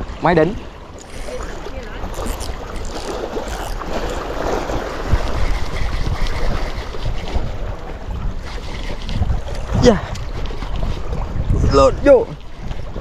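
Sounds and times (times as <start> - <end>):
water lapping against rocky shore: 0.0 - 13.0
wind buffeting microphone: 0.0 - 13.0.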